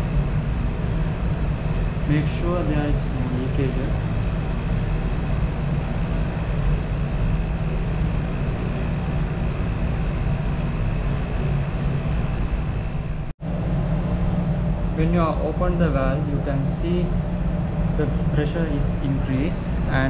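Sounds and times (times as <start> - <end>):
fume hood exhaust rushing: 0.0 - 20.0
vacuum pump humming: 0.0 - 20.0.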